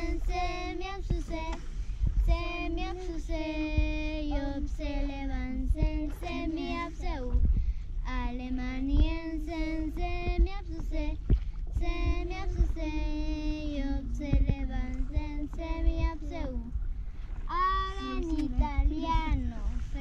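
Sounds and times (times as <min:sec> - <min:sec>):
girls singing unaccompanied: 0:00.0 - 0:07.4, 0:08.1 - 0:16.8, 0:17.5 - 0:20.0.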